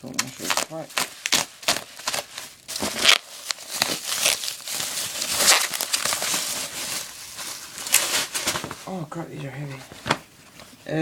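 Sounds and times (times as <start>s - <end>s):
packaging crinkling and rustling: 0.1s - 10.8s.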